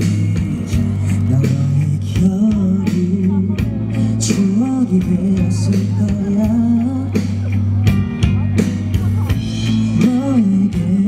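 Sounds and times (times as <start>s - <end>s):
electric bass line: 0.0s - 11.0s
electric guitar: 0.0s - 11.0s
male voice singing: 0.0s - 11.0s.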